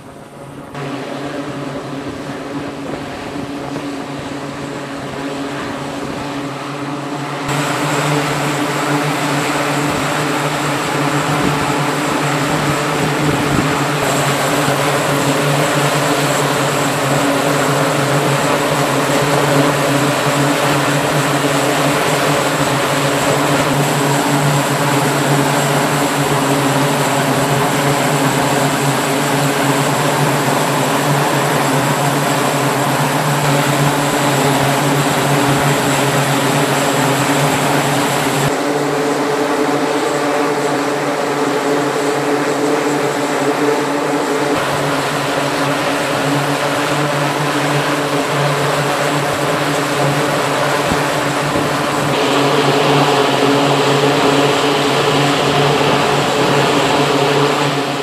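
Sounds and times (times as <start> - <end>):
high whine: 0.0 - 58.0
turboprop engines droning: 0.0 - 58.0.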